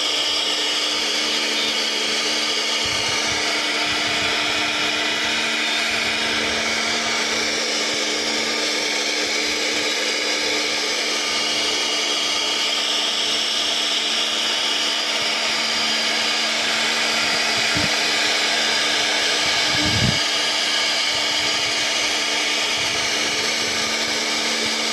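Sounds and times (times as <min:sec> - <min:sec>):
cnc router spindle hum: 0:00.0 - 0:24.9.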